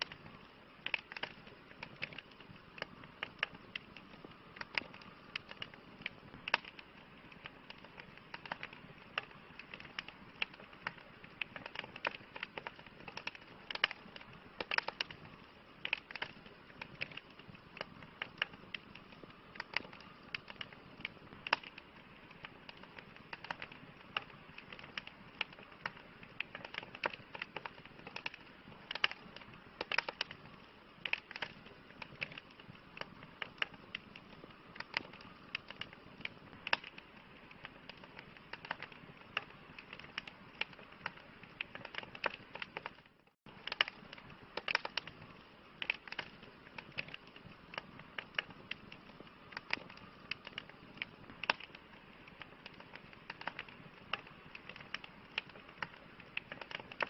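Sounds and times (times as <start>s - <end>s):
campfire crackling and popping: 0.0s - 57.0s
campfire hissing: 0.0s - 57.0s.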